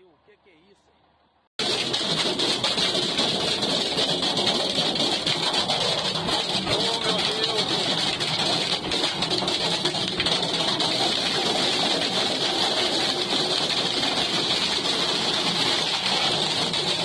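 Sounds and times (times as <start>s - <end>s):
hail rattling on truck cab: 1.6s - 17.0s.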